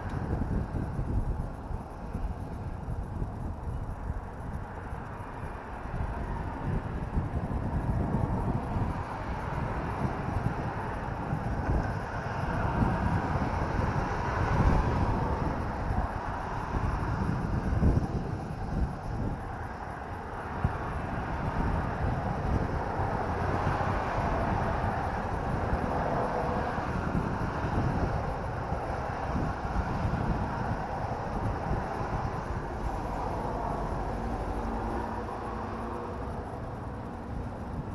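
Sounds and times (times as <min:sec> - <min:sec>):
low rumble of road and engine: 0:00.0 - 0:37.9
wind buffeting microphone: 0:00.0 - 0:37.9.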